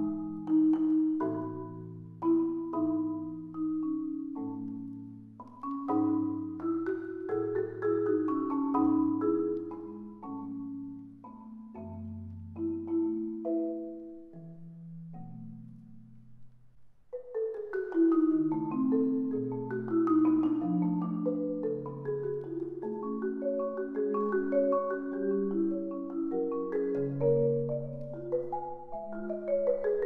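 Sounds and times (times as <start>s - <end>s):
marimba playing a waltz: 0.0s - 16.5s, 17.1s - 30.0s.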